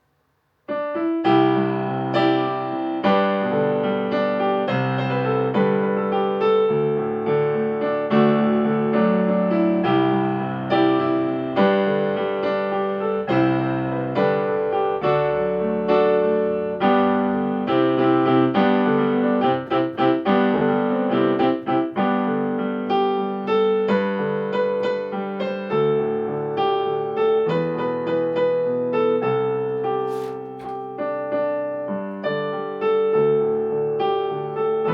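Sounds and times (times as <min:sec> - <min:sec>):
solo piano playing: 0:00.0 - 0:34.9.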